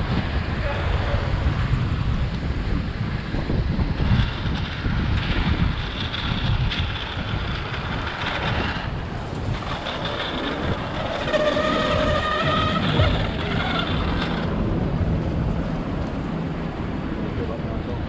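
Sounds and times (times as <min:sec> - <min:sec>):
skate wheels rolling on asphalt: 0:00.0 - 0:18.0
wind buffeting microphone: 0:00.0 - 0:18.0.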